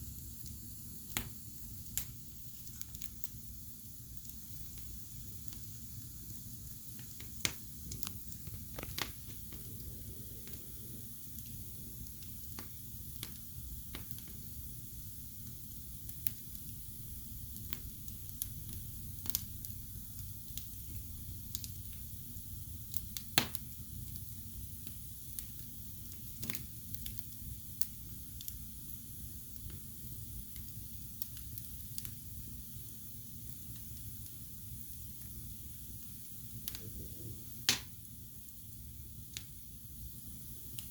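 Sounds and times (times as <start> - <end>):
fire crackles and pops: 0.0 - 40.9
wood fire rumble and hiss: 0.0 - 40.9.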